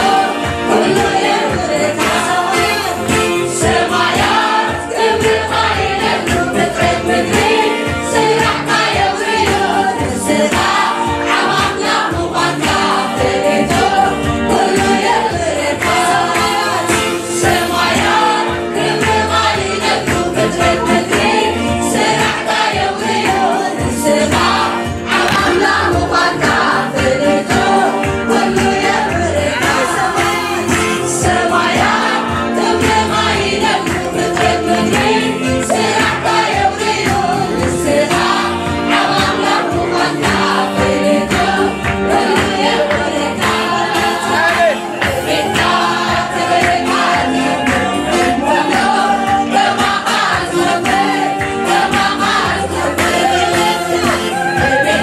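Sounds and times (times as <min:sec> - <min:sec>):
choir singing: 0:00.0 - 0:55.0
electric keyboard: 0:00.0 - 0:55.0.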